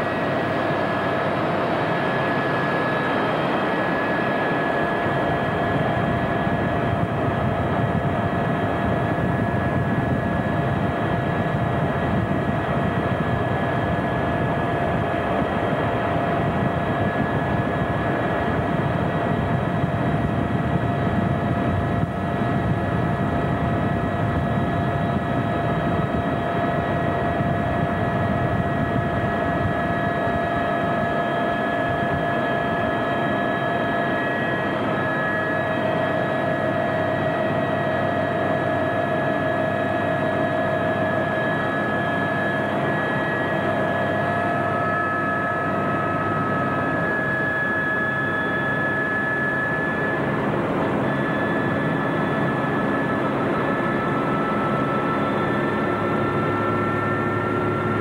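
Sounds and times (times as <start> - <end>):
helicopter engine and rotor rumble: 0.0 - 58.0.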